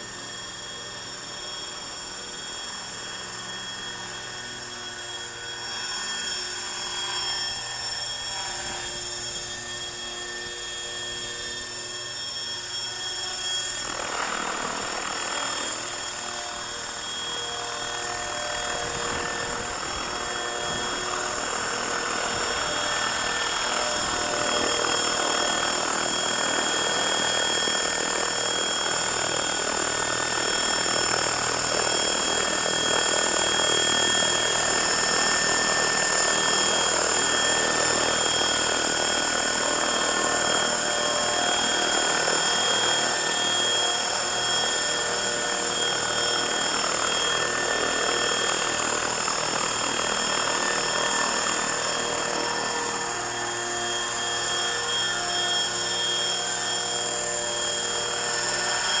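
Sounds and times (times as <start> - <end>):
helicopter rotor noise: 0.0 - 59.0
high-pitched motor whine: 0.0 - 59.0.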